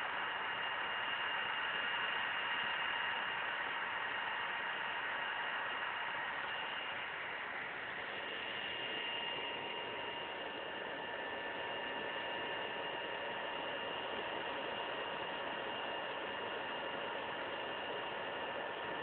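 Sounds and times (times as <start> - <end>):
laptop cooling fan running: 0.0 - 19.0.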